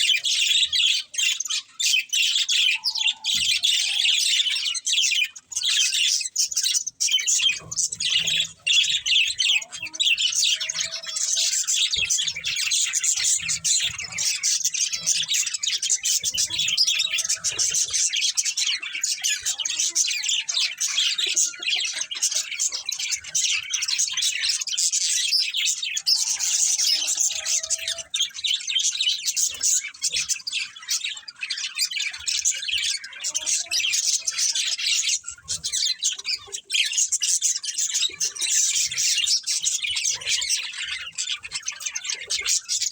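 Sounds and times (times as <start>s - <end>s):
budgerigars chirping and chattering: 0.0s - 42.9s.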